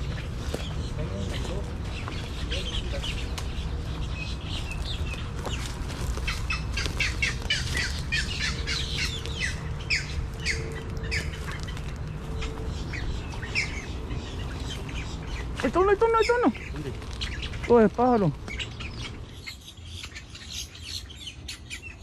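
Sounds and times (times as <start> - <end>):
birds squawking chirps: 0.0 - 22.0
steady low rumble: 0.0 - 22.0.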